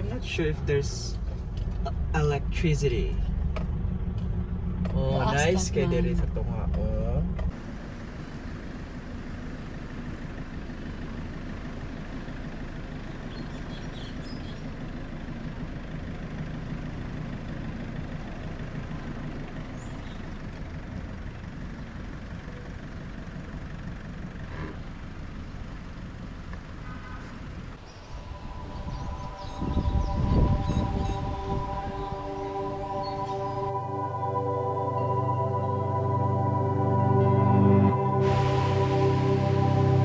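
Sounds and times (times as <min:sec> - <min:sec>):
van engine and road rumble: 0:00.0 - 0:40.0.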